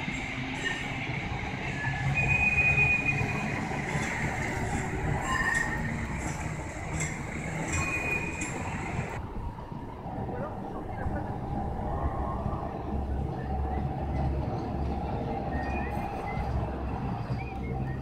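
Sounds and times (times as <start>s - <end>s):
tram wheels squealing on track: 0.0s - 9.2s, 11.9s - 18.0s
tram rolling rumble: 0.0s - 18.0s.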